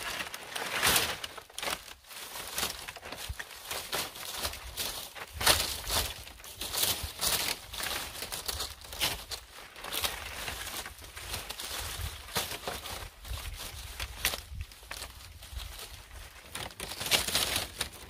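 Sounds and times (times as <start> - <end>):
leaves and thatch rustling: 0.0 - 18.0.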